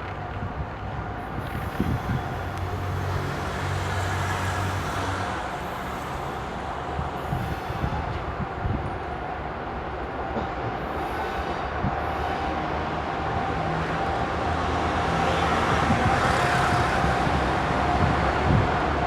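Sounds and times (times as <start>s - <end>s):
diesel locomotive engines running: 0.0s - 19.0s.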